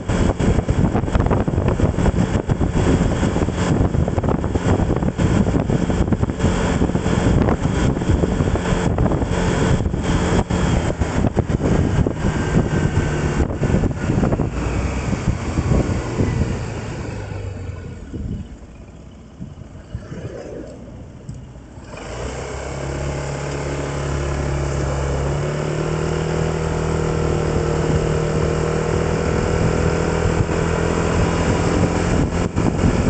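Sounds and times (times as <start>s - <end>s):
vehicle rumble on road: 0.0s - 33.0s
wind buffeting microphone: 0.0s - 33.0s.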